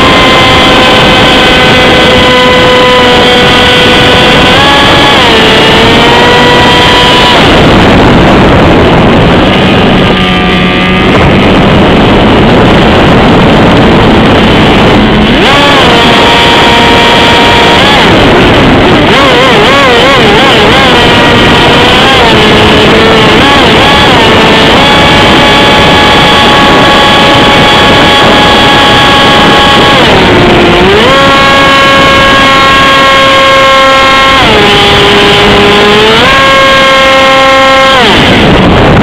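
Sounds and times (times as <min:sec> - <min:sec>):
electric motor and propeller whine: 0:00.0 - 0:39.0
wind rushing on microphone: 0:00.0 - 0:39.0.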